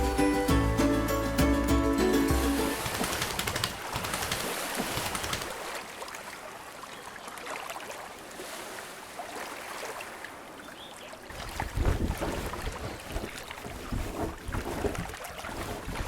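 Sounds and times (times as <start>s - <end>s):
water lapping and trickling: 2.4s - 16.0s.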